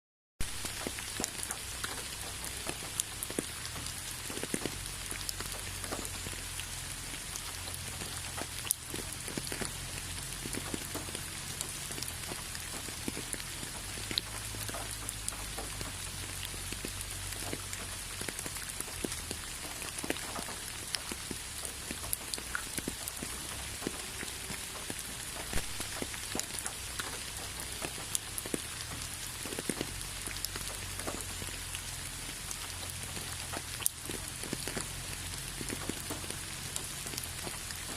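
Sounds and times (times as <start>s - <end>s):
rain pattering on surfaces: 0.4s - 37.9s.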